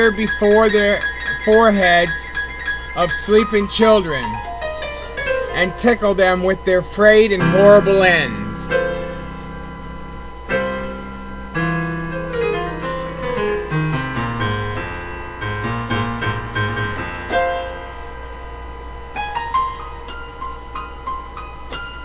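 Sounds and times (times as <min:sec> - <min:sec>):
solo keyboard music: 0:00.0 - 0:22.0.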